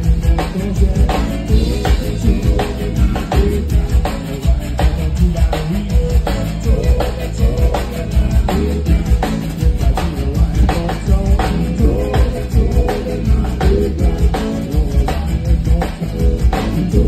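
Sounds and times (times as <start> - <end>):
button accordion melody: 0.0 - 17.0
drum kit beat: 0.0 - 17.0.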